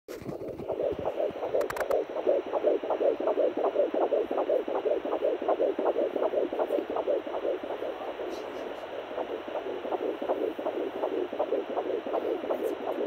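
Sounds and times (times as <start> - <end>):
fetal heartbeat whooshing pulses: 0.1 - 13.0.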